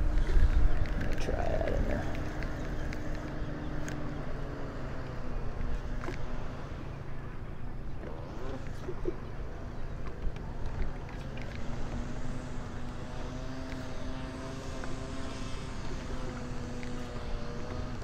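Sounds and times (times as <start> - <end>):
distant engine droning: 0.0 - 18.0
low wind: 0.0 - 18.0.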